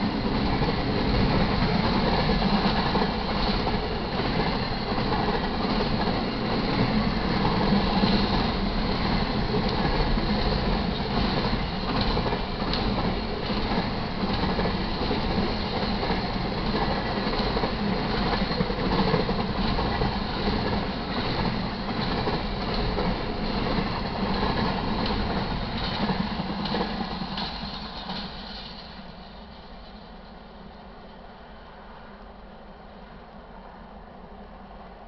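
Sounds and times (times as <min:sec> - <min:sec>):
train wheels rumbling on rail: 0:00.0 - 0:35.0
wheels clicking over rail joints: 0:00.1 - 0:29.1.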